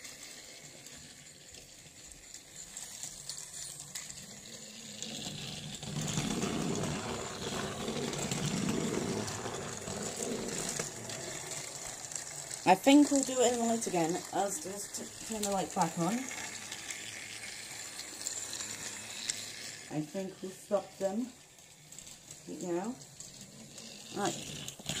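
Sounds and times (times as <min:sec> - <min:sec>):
toy train motor whirring: 0:00.0 - 0:25.0.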